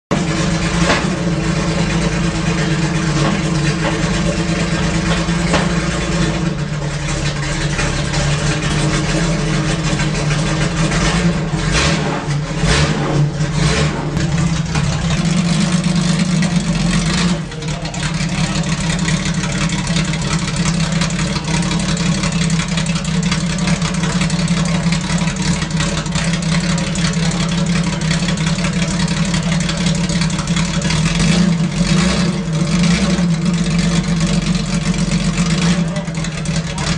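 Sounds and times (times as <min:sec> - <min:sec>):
car engine running: 0:00.1 - 0:36.9.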